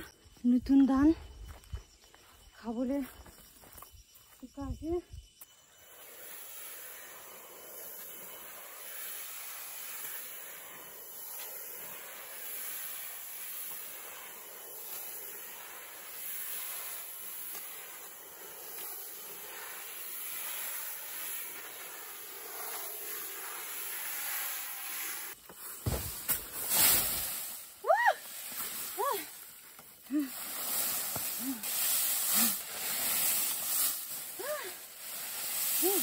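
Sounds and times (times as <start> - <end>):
steady hissing noise: 5.2 - 36.0.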